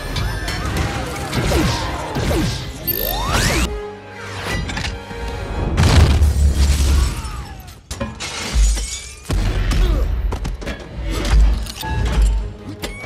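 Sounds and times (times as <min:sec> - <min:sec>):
film score music: 0:00.0 - 0:08.6, 0:09.3 - 0:13.0.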